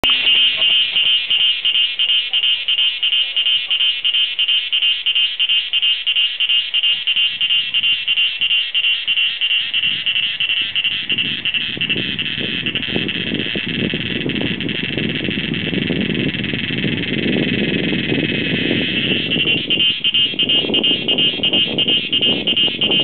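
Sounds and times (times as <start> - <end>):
cicada singing: 0.0 - 23.0.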